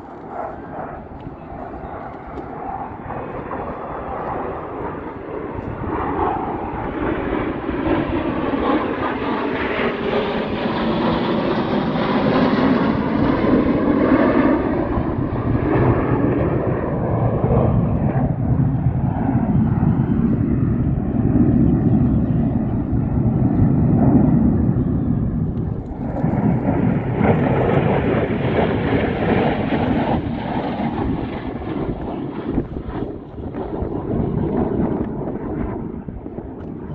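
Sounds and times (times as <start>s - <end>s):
airplane engine in flight: 0.0s - 36.9s.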